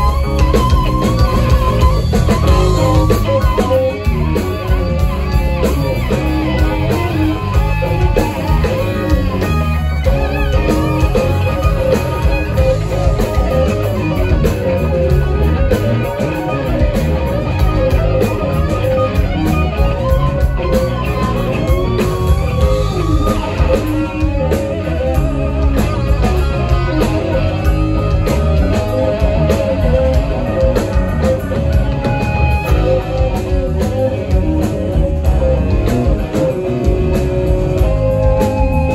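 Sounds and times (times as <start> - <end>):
electric guitar: 0.0 - 38.9
live rock band playing: 0.0 - 38.9.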